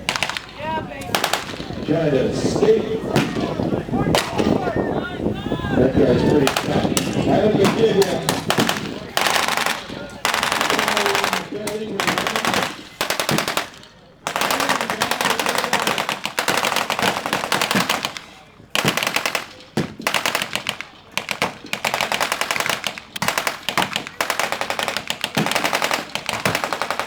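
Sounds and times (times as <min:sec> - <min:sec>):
automatic gunfire bursts: 0:00.0 - 0:03.6, 0:05.8 - 0:27.0.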